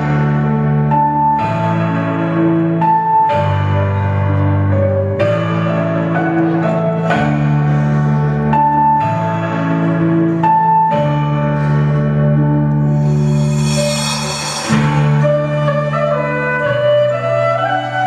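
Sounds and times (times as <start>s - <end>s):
slow instrumental music: 0.0s - 18.0s.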